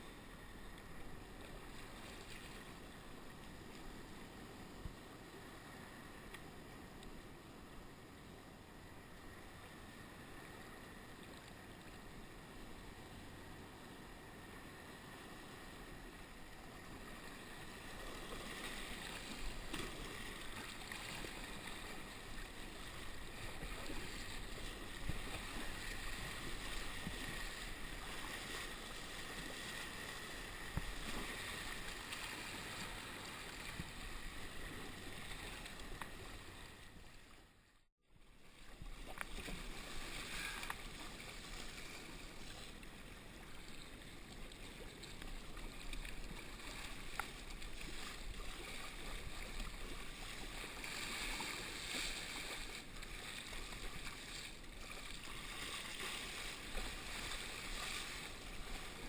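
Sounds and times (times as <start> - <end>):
water splashing along kayak hull: 0.0 - 59.0.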